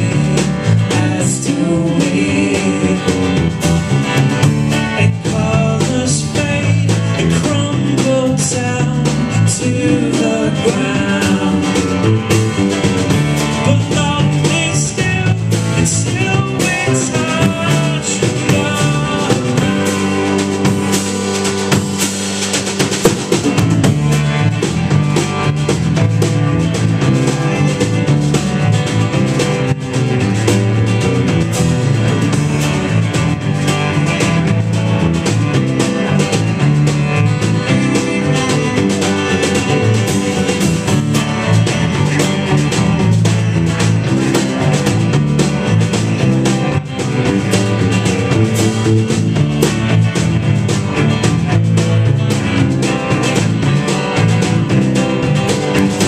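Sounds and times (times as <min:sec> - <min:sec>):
drum kit: 0:00.0 - 0:56.0
electric guitar: 0:00.0 - 0:56.0
strummed acoustic guitar: 0:00.0 - 0:56.0.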